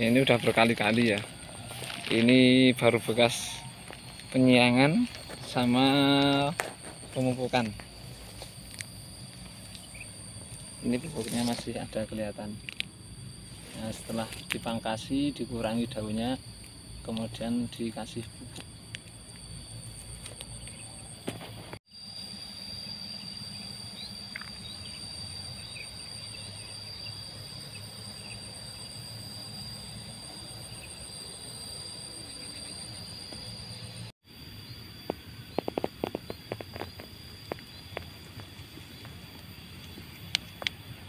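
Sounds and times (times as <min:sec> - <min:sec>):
insects trilling: 0:00.0 - 0:41.0.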